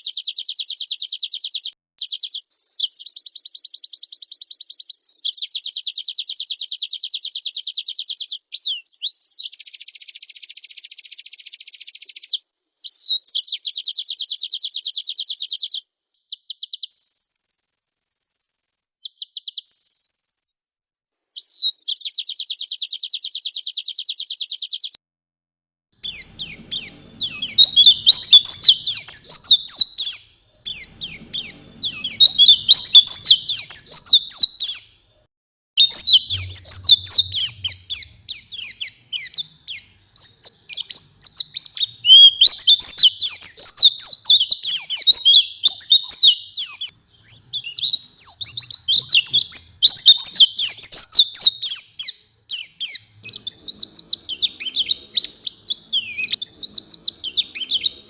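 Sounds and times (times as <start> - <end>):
bird singing rapid high chirps: 0.0 - 20.5, 21.4 - 25.0, 26.0 - 35.2, 35.8 - 58.0.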